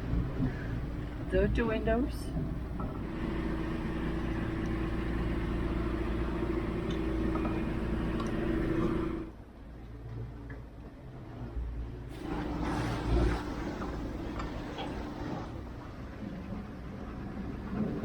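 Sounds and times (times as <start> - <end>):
boat engine rumbling: 0.0 - 9.7, 11.8 - 18.0.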